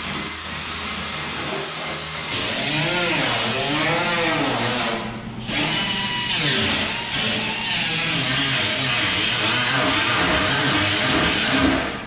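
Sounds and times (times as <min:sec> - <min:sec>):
power tool on sheet metal: 0:00.0 - 0:12.0.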